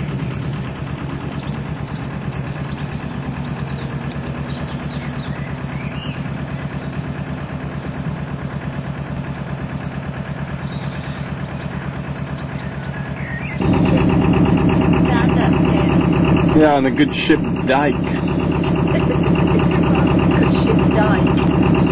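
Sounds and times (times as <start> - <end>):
diesel boat engine chugging: 0.0 - 21.9.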